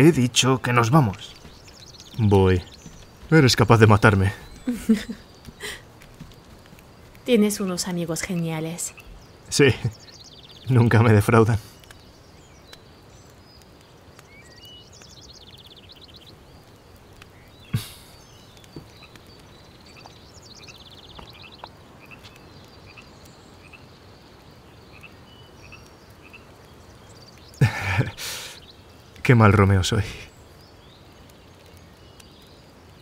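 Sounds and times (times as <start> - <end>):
bird chirps: 0.0 - 33.0
faint steady hiss: 0.0 - 33.0.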